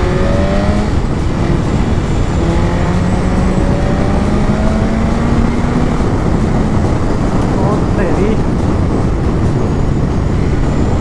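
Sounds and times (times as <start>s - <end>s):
motorcycle engine accelerating: 0.0s - 11.0s
wind and road noise: 0.0s - 11.0s.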